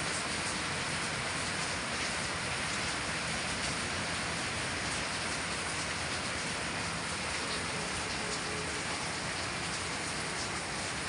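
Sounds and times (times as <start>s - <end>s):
rain on foliage: 0.0s - 11.0s.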